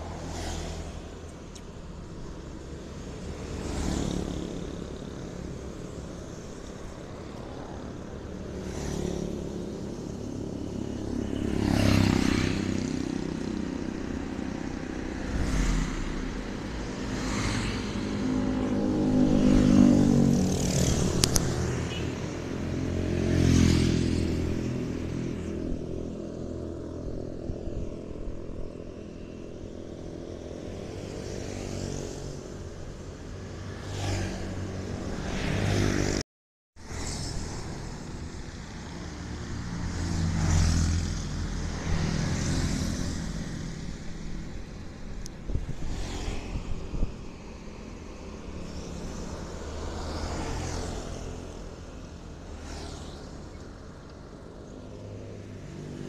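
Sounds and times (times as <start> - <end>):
vehicles passing: 0.0 - 36.2, 36.8 - 56.0.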